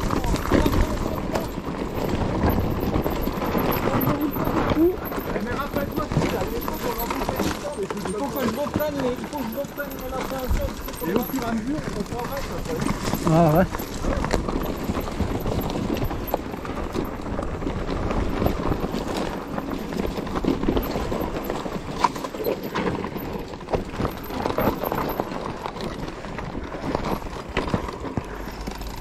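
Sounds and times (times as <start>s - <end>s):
mountain bike rattling on trail: 0.0s - 29.0s.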